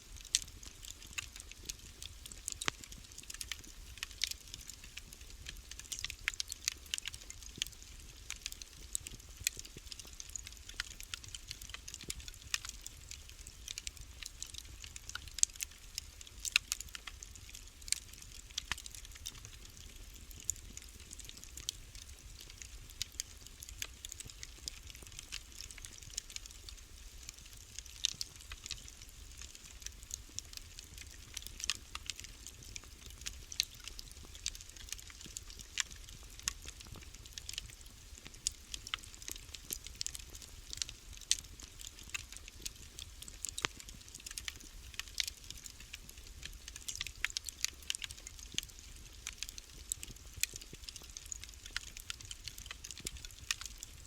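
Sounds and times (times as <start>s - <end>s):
wood fire crackling and popping: 0.1s - 54.0s.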